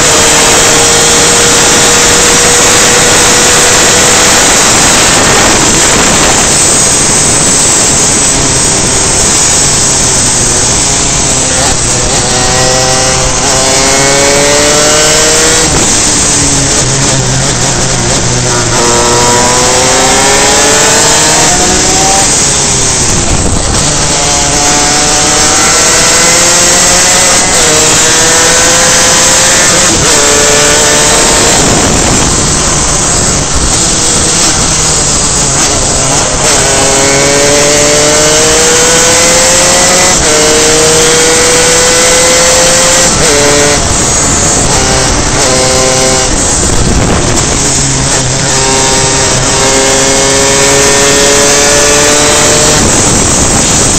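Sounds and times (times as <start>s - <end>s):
kart engine at full throttle: 0.0s - 53.9s
loud wind rush: 0.0s - 53.9s.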